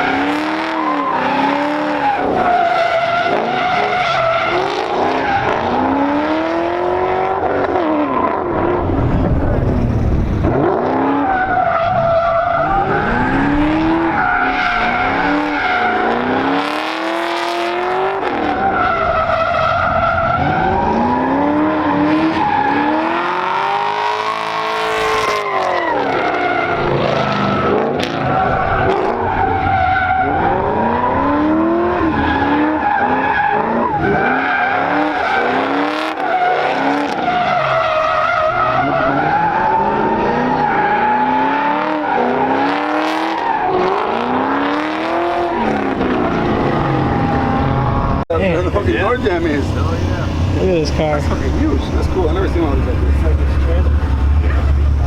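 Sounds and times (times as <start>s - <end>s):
drag car engines revving: 0.0s - 55.0s
tire squeal: 0.0s - 55.0s.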